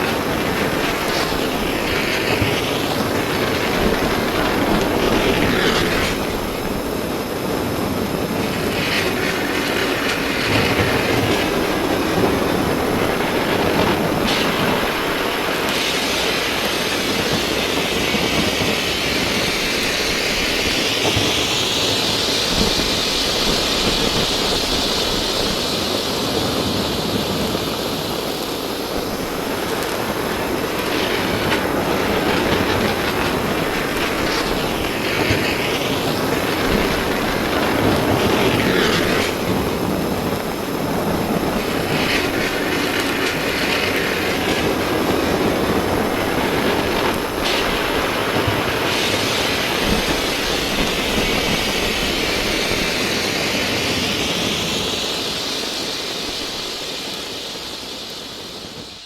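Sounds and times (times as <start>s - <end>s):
blowtorch flame hissing: 0.0s - 59.0s.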